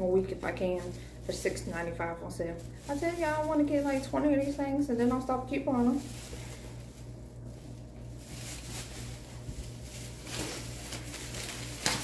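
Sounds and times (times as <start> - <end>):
packaging rustling: 0.0 - 12.0
plastic bottles being handled: 0.0 - 12.0
steady low hum: 0.0 - 12.0.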